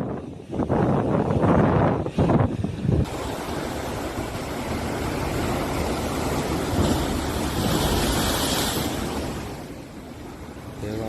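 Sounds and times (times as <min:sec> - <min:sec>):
gale-force wind: 0:00.0 - 0:11.0
large waves breaking: 0:00.0 - 0:11.0.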